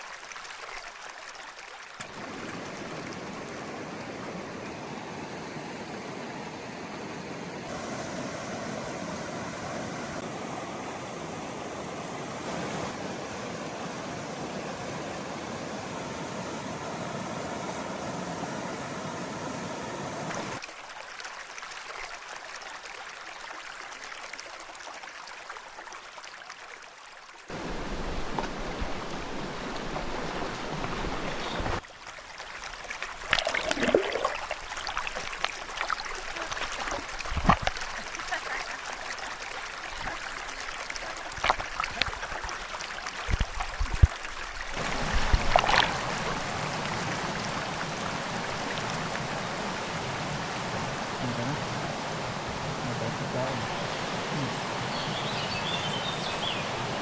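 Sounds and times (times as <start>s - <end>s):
river water over rocks: 0.0s - 57.0s.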